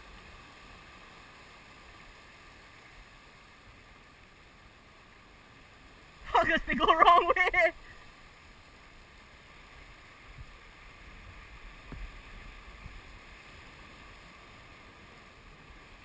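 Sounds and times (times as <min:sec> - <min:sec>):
ocean water washing: 0:00.0 - 0:16.0
wind: 0:00.0 - 0:16.0.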